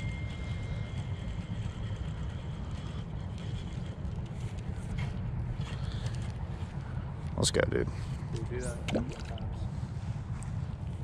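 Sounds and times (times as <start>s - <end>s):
wind buffeting microphone: 0.8s - 11.0s.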